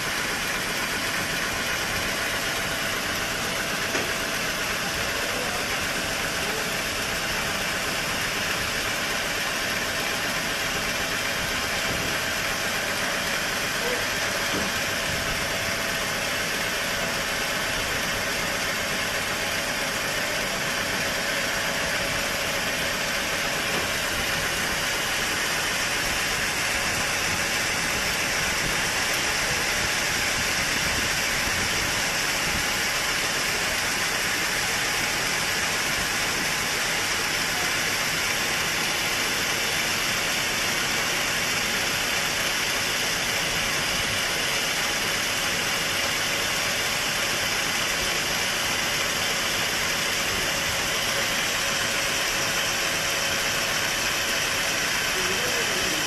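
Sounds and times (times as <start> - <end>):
sawmill machinery hum: 0.0 - 56.0
steady machine hiss: 0.0 - 56.0.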